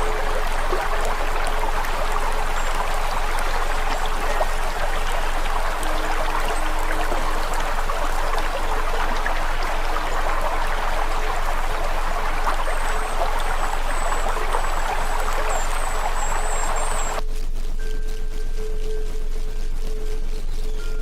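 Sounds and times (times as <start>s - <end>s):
faint high chirps: 0.0s - 17.2s
campfire crackling: 0.0s - 21.0s.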